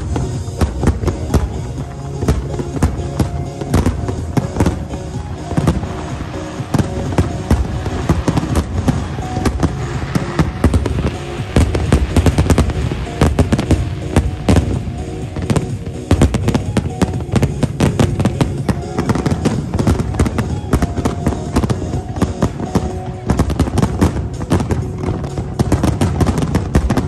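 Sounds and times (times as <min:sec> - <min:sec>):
firework crackling: 0:00.0 - 0:27.0
music: 0:00.0 - 0:27.0.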